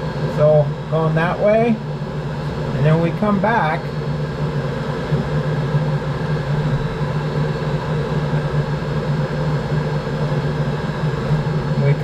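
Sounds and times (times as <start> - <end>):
coolant heater humming: 0.0 - 12.0.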